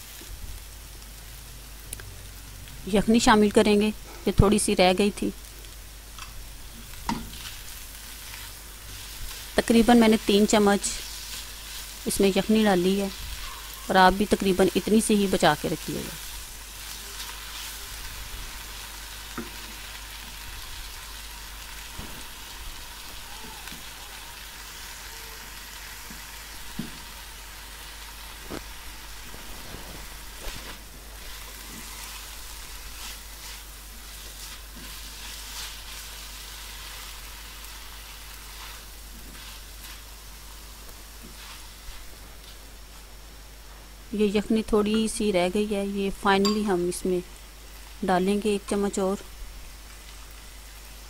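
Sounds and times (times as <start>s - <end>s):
food sizzling in a wok: 0.0s - 51.0s.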